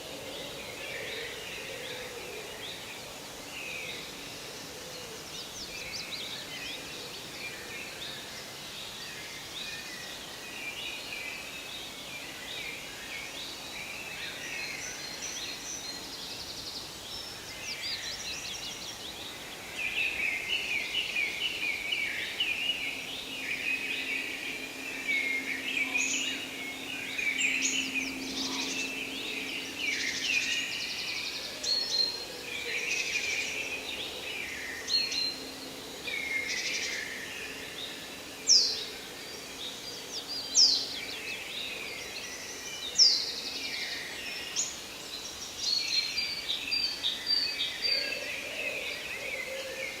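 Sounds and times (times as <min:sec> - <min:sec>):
background hiss: 0:00.0 - 0:50.0
songbirds chirping and trilling: 0:00.0 - 0:50.0.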